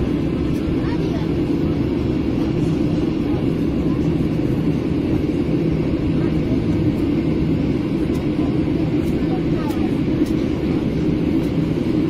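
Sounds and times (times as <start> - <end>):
airliner rumbling on runway: 0.0 - 12.0.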